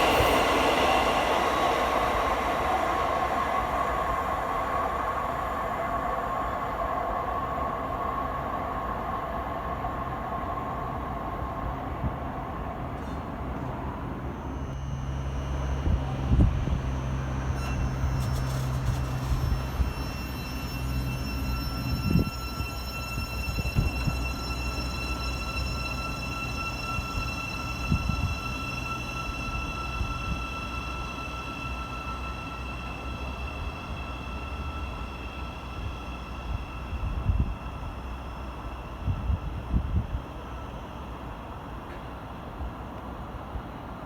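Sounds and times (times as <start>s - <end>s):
high-pitched whine: 0.0s - 42.0s
train running through station: 0.0s - 44.0s.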